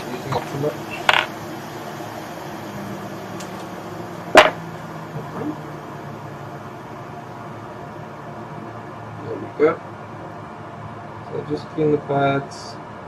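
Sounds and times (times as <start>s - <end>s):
fan noise: 0.0s - 13.0s.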